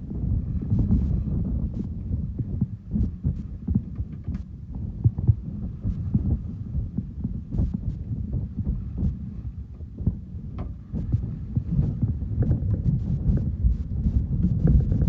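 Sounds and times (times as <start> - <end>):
boat engine throbbing rumble: 0.0 - 15.0.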